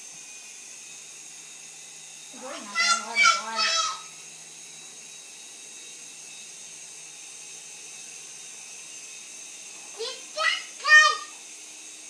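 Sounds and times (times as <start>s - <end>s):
toy helicopter rotor whirring: 0.0s - 12.0s.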